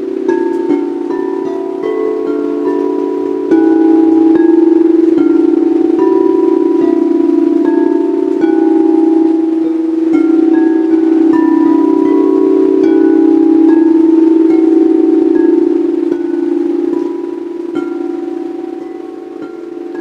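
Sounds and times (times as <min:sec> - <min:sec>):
chimes ringing: 0:00.0 - 0:20.0
singing bowl drone: 0:00.0 - 0:20.0.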